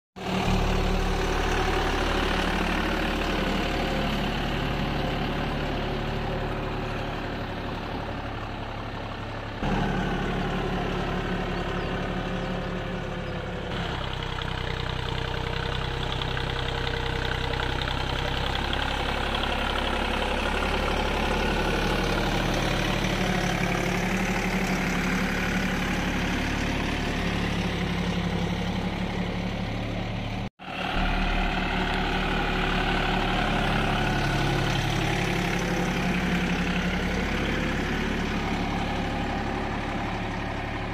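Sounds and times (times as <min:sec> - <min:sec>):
tractor diesel engine running: 0:00.2 - 0:40.9.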